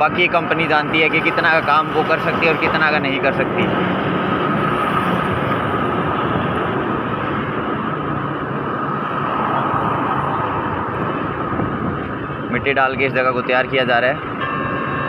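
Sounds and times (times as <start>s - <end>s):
passing trucks and cars: 0.0s - 15.0s
wind and road rush: 0.0s - 15.0s.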